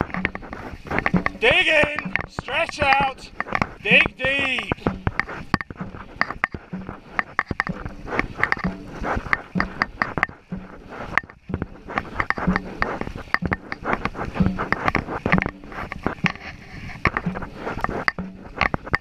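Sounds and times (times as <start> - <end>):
paddles splashing in water: 0.0 - 19.0
water rushing along hull: 0.0 - 19.0.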